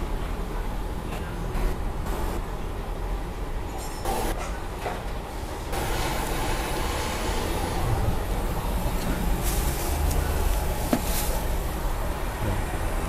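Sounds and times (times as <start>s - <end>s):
busy kitchen rumble: 0.0s - 13.0s.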